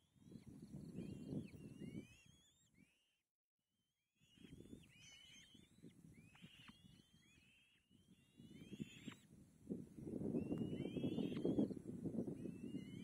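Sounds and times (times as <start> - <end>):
high whistled bird calls: 0.0 - 3.2, 4.2 - 9.3, 10.0 - 13.0.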